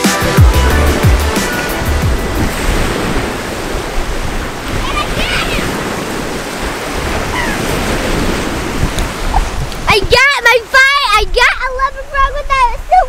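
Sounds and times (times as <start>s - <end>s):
waves on sandy shore: 0.0s - 13.0s
wind rushing: 0.0s - 13.0s.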